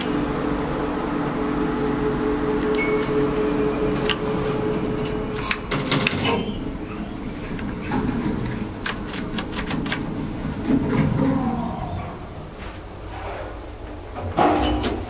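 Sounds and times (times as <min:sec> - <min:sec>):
steady hum: 0:00.0 - 0:14.2.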